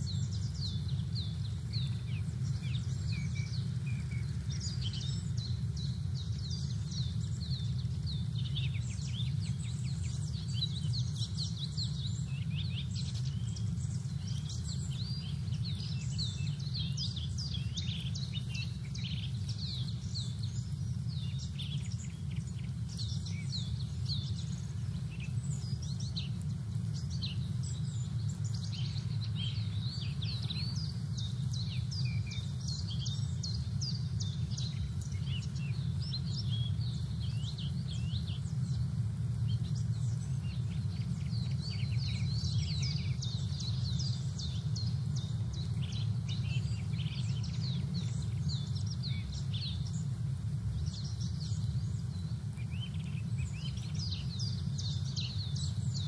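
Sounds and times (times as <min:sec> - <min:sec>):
small birds chirping and twittering: 0:00.0 - 0:56.0
steady low rumble: 0:00.0 - 0:56.0.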